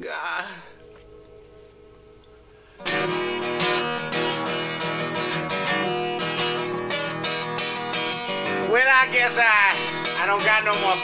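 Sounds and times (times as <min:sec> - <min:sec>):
strummed acoustic guitar music: 0:00.7 - 0:11.0.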